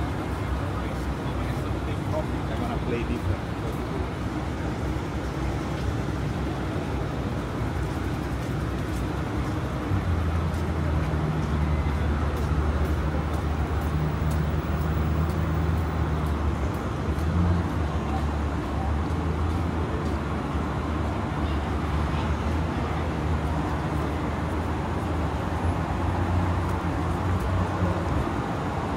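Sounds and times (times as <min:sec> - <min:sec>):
street traffic: 0:00.0 - 0:28.9.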